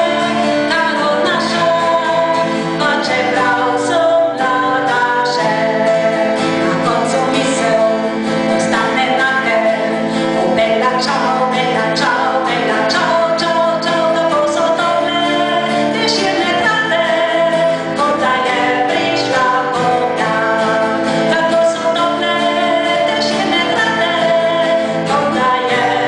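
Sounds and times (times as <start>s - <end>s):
acoustic guitar strumming: 0.0s - 26.0s
woman singing into a microphone: 0.0s - 26.0s.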